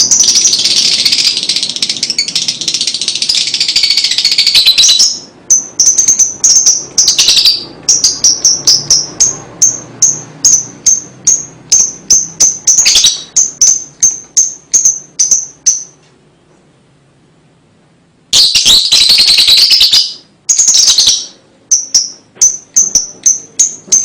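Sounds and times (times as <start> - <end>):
lovebird chirping: 0.0 - 16.1, 18.4 - 24.0.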